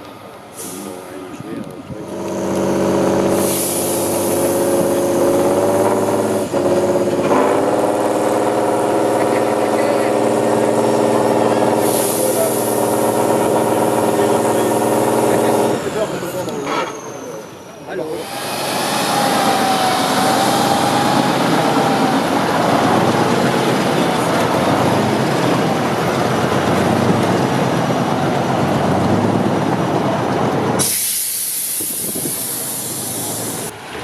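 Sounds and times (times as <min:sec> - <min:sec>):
diesel truck engine rumbling: 0:00.0 - 0:34.0.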